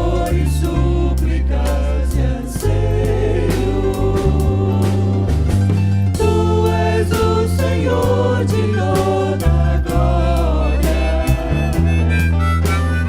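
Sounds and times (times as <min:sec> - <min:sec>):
group singing gospel song: 0:00.0 - 0:12.2
deep bass line: 0:00.0 - 0:13.0
steady drum beat: 0:00.0 - 0:13.0.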